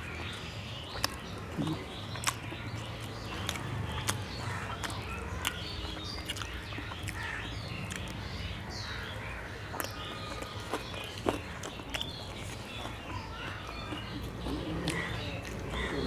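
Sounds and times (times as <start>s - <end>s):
birds chirping: 0.0s - 16.0s
chewing with mouth clicks: 0.0s - 16.0s.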